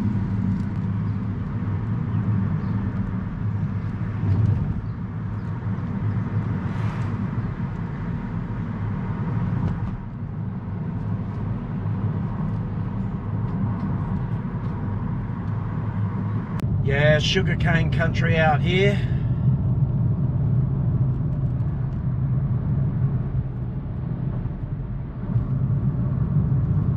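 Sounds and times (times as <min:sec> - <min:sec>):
car engine and tyre drone: 0:00.0 - 0:26.9.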